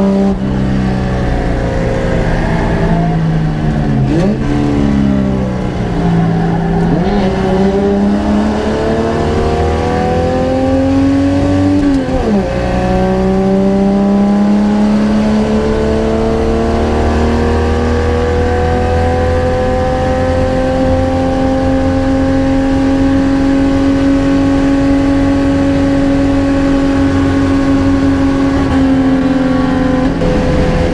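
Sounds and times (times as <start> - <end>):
race car engine accelerating: 0.0 - 30.9.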